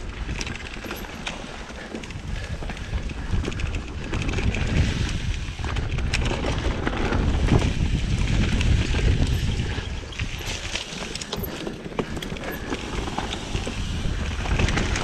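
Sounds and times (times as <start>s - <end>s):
bike rattling: 0.0s - 15.0s
bike tyres rolling on dirt: 0.0s - 15.0s
wind rumbling on microphone: 0.0s - 15.0s.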